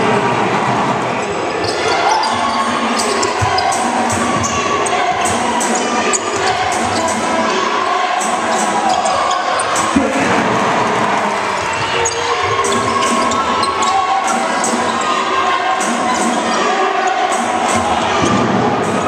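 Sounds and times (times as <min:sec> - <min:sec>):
crowd hubbub: 0:00.0 - 0:19.0.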